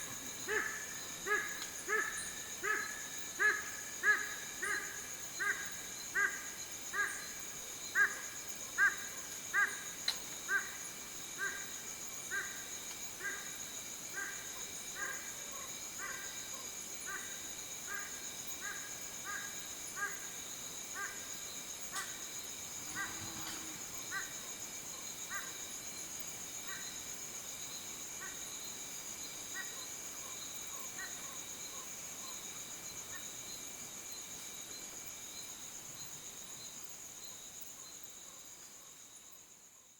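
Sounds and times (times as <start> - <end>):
high-pitched insect drone: 0.0 - 38.0.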